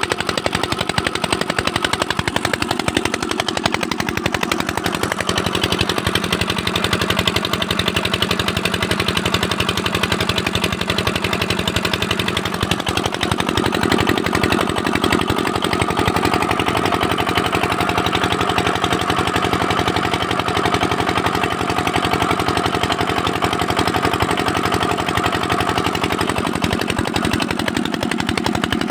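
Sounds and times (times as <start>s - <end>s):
engine running steadily: 0.0s - 28.9s.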